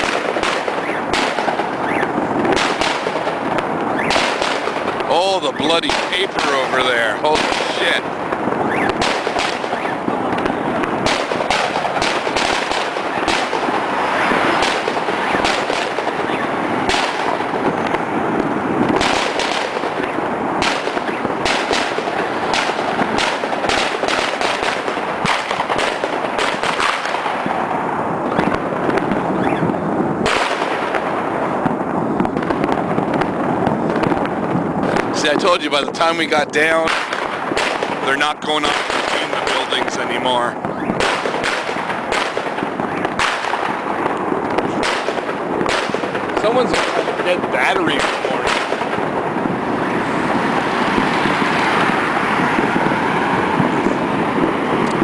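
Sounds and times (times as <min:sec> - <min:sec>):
firecrackers crackling: 0:00.0 - 0:55.0
fireworks sharp bangs: 0:00.0 - 0:55.0.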